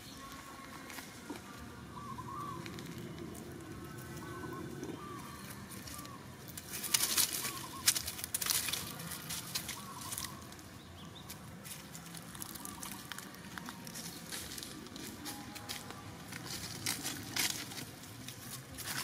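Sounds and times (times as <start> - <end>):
dry leaves crackling and rustling: 0.0 - 19.0.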